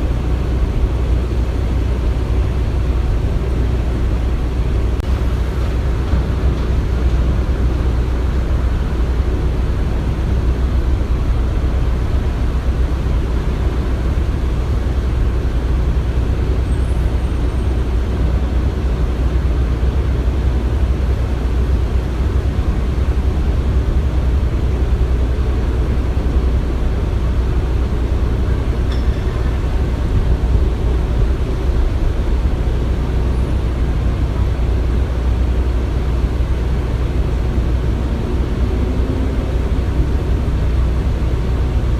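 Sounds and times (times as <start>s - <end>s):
heavy machinery rumbling: 0.0s - 41.9s.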